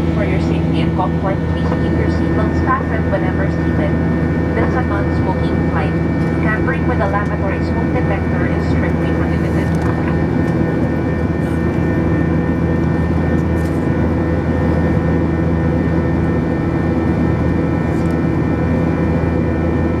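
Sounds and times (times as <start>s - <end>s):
jet engine drone in cabin: 0.0s - 20.0s.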